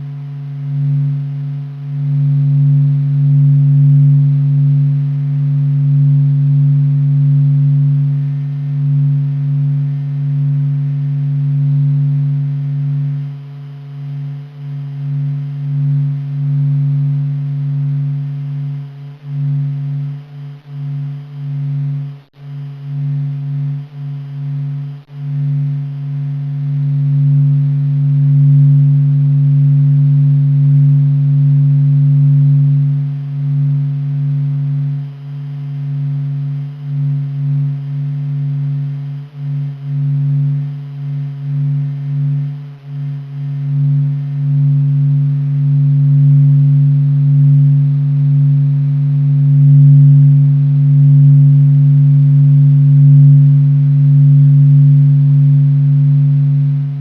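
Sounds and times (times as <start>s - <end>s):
low electronic drone: 0.0s - 57.0s.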